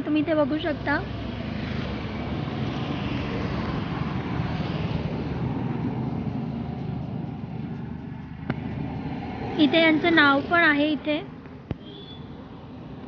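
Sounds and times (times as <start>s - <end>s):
vehicle passing: 0.0s - 11.7s
vehicle engine hum: 0.0s - 13.0s.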